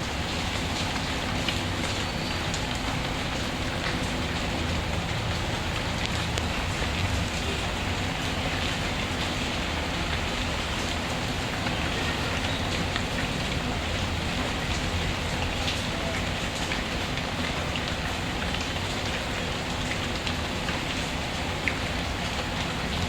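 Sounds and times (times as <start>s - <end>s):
steady rainfall: 0.0s - 23.0s.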